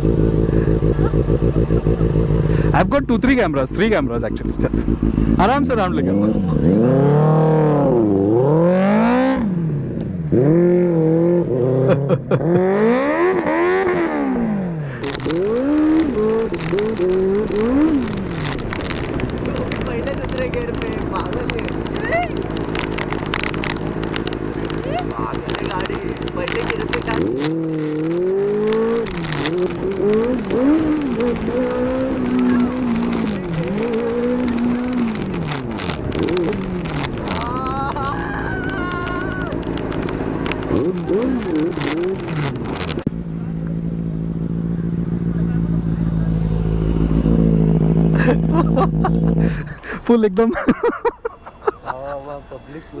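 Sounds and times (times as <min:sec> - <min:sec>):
motorcycle engine revving: 0:00.0 - 0:50.1.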